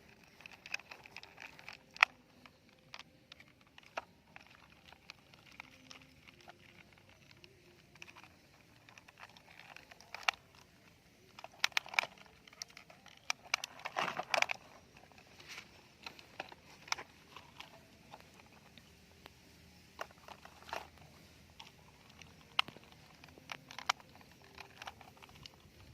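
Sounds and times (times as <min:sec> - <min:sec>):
plastic toys clicking: 0:00.0 - 0:25.9
rustling and scraping: 0:00.0 - 0:25.9.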